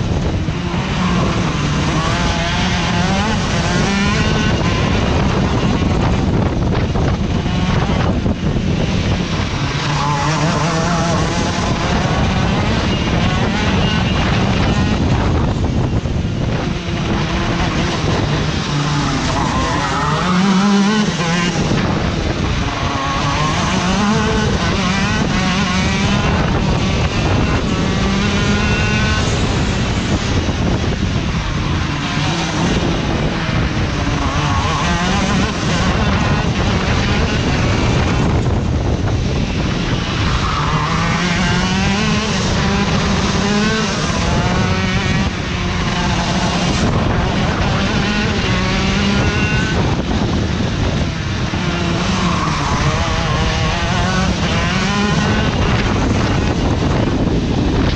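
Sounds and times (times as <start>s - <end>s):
go-kart engine revving: 0.0s - 57.9s
wind rushing on microphone: 0.0s - 57.9s.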